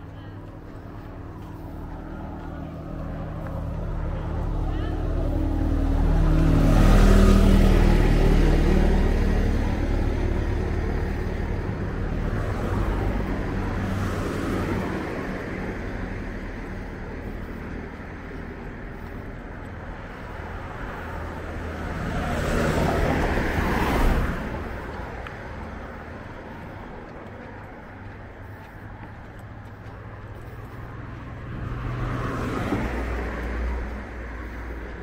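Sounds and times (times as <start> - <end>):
cars passing: 0.0 - 35.0.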